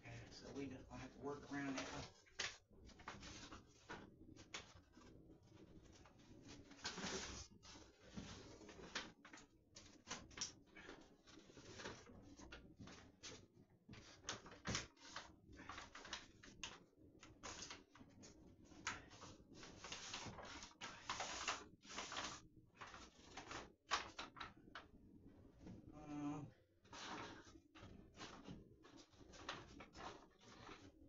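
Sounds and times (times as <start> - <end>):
window shade rustling and crinkling: 0.1 - 24.9, 26.8 - 31.0.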